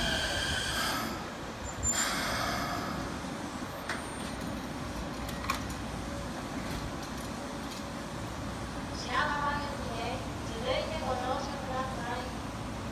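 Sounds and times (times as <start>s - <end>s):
train equipment low rumble: 0.0s - 12.9s.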